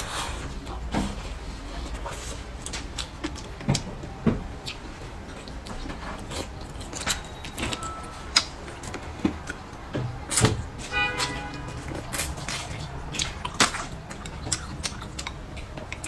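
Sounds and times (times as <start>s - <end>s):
person chewing: 0.0s - 3.9s, 4.5s - 16.0s.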